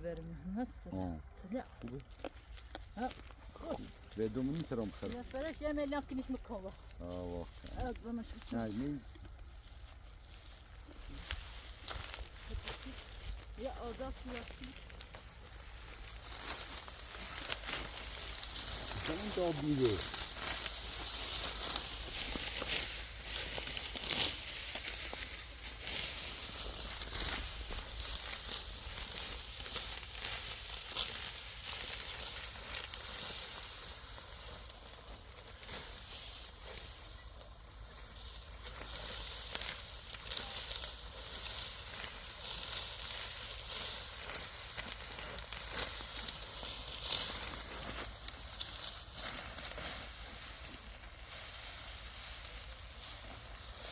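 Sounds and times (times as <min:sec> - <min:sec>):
dry wheat stalks crackling: 0:00.0 - 0:53.9.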